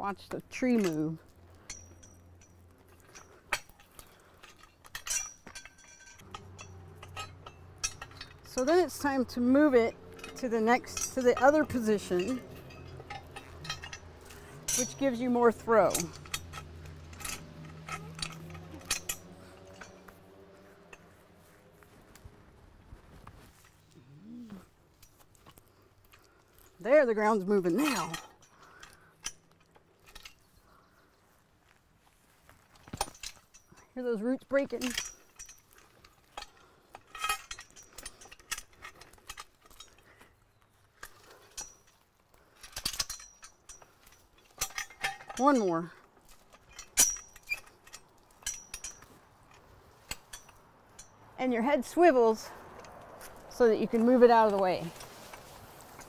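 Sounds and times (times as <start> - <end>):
metal chain clinking: 0.5 - 21.9, 24.6 - 31.0, 32.6 - 56.0.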